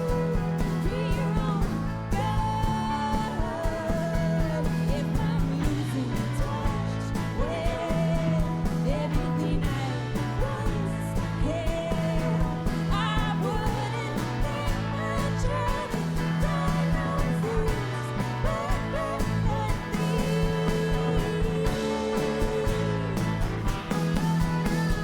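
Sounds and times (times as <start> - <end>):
live band playing: 0.0 - 25.0
woman singing: 0.0 - 25.0.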